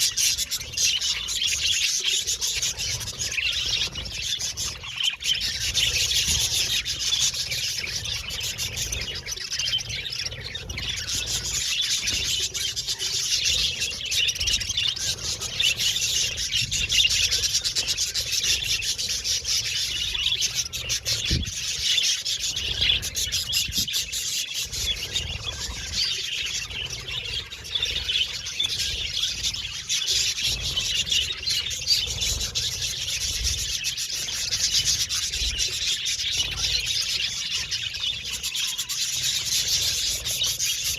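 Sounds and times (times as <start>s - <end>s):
budgerigars chirping and warbling: 0.0s - 40.9s.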